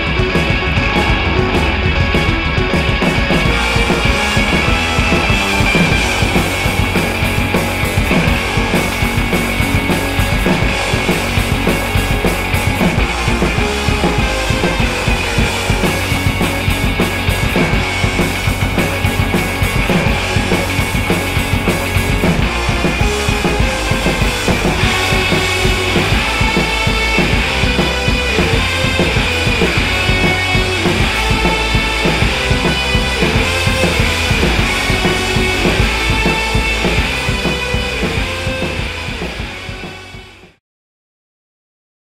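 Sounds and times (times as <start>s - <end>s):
rock music with drum beat: 0.0s - 40.6s.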